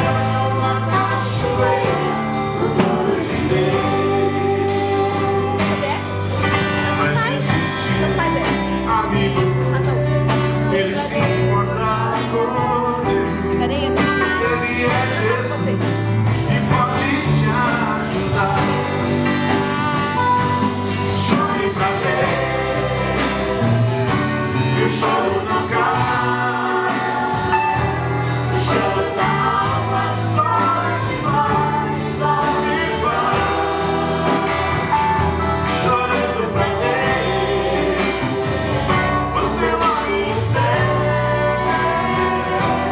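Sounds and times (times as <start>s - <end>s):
bass line: 0.0s - 42.9s
person singing a song: 0.0s - 42.9s.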